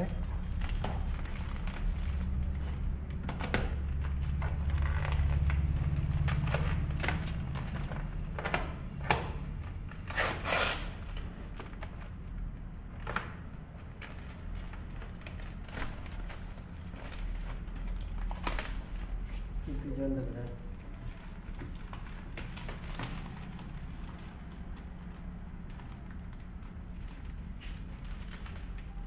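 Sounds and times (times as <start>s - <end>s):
plastic wrap crinkling and tearing: 0.0s - 29.0s.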